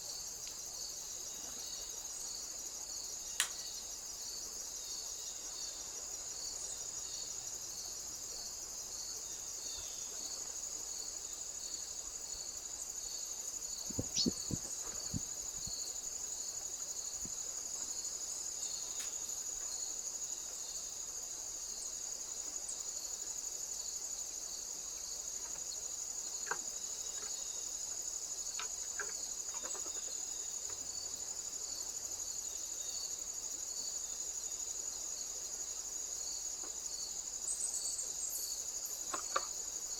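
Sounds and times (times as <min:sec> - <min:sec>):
insects chirring: 0:00.0 - 0:39.9
pulsing insect chirp: 0:00.0 - 0:39.9.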